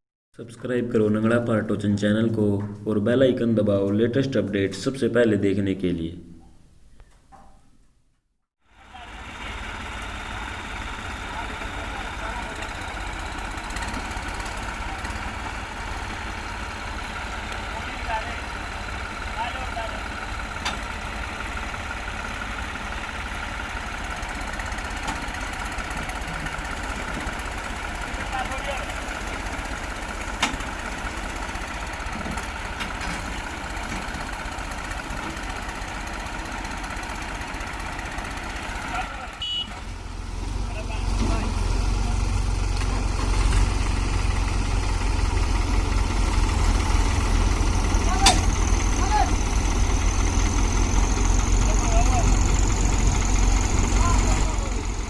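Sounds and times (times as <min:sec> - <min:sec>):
tractor diesel engine idling: 0:08.6 - 0:55.0.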